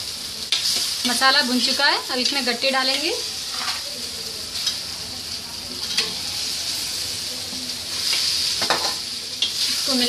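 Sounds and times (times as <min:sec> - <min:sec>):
masala sizzling in hot oil: 0:00.0 - 0:10.0.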